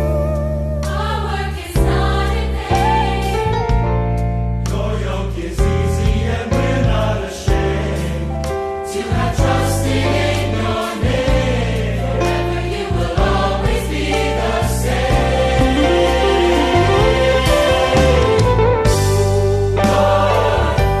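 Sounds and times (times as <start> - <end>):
instrumental accompaniment: 0.0 - 21.0
choir singing: 0.8 - 3.8, 4.6 - 21.0.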